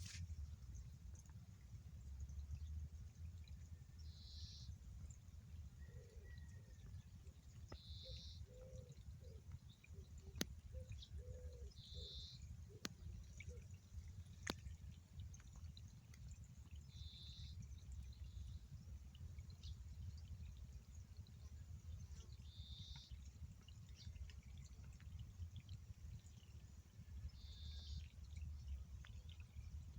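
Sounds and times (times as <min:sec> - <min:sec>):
faint low warbling calls: 0:02.0 - 0:29.9.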